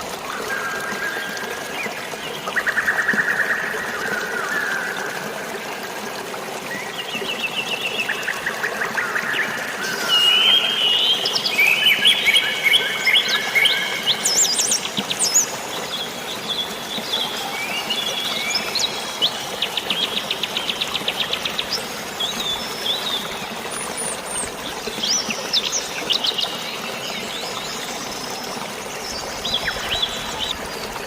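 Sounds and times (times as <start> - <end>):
flowing water: 0.0 - 31.0.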